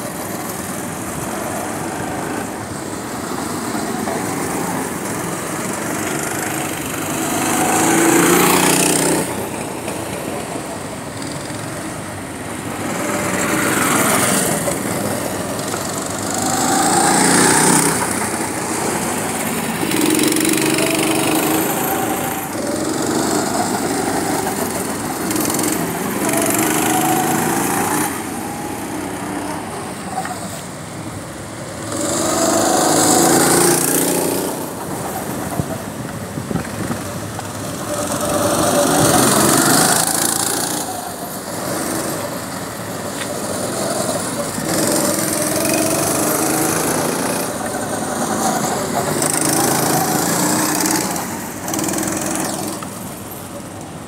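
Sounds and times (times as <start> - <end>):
go-kart engines revving past: 0.0 - 54.0.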